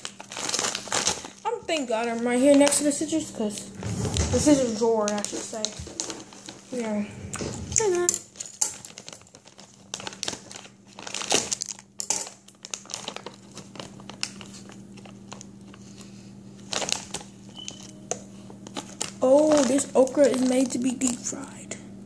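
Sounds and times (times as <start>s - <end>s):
plastic bag crinkling: 0.0s - 21.7s.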